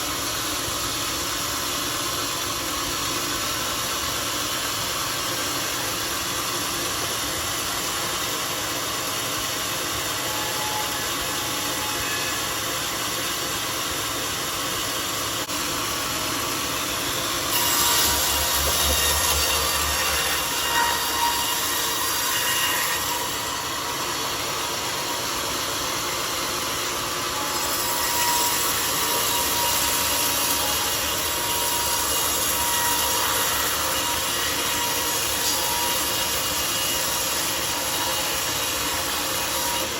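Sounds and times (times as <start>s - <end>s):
sawmill blade cutting log: 0.0s - 39.9s.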